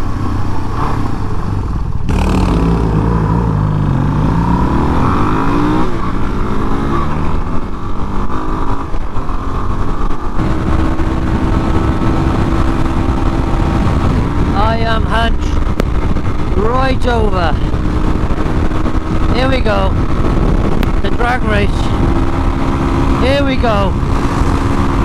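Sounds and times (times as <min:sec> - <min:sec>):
motorcycle engine revving: 0:00.0 - 0:25.0
wind on microphone: 0:00.0 - 0:25.0.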